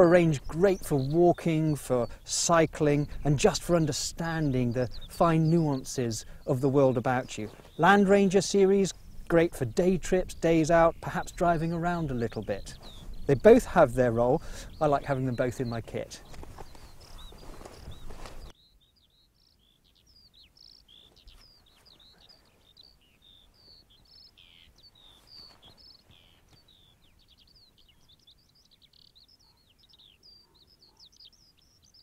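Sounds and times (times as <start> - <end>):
birds chirping and trilling: 0.0 - 32.0.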